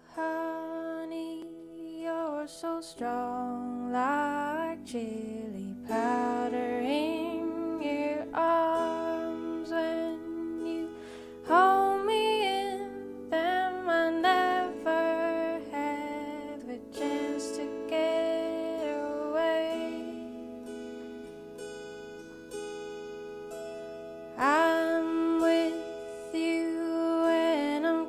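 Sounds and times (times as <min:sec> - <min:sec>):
woman singing slow melody: 0:00.0 - 0:21.4, 0:24.4 - 0:28.0
plucked guitar: 0:00.0 - 0:28.0.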